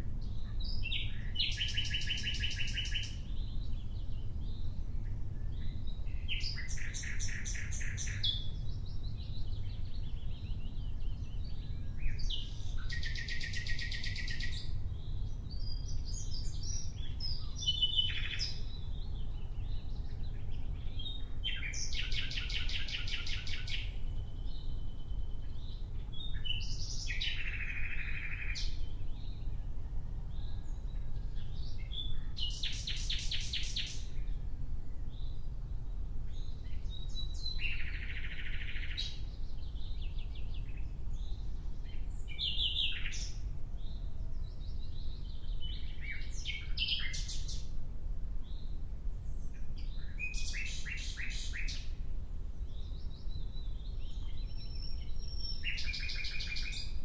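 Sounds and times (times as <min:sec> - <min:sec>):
nightingale singing: 0:00.0 - 0:29.5, 0:30.3 - 0:34.4, 0:36.3 - 0:47.7, 0:48.4 - 0:52.0, 0:52.6 - 0:57.0.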